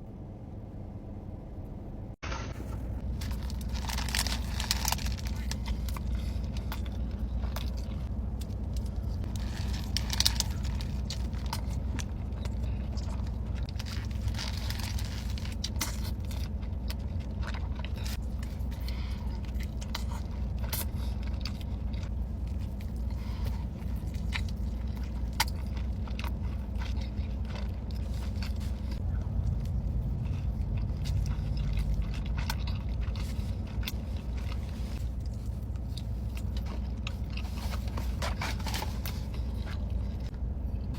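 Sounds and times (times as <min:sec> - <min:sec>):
low hum: 0:00.0 - 0:40.9
crunching and chewing: 0:02.3 - 0:40.9.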